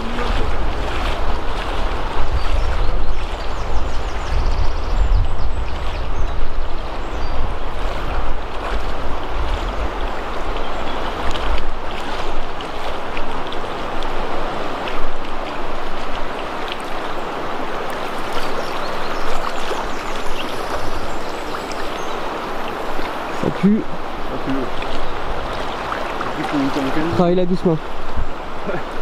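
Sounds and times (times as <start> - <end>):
fast river current rushing: 0.0 - 29.0
wind rumble on microphone: 0.0 - 29.0.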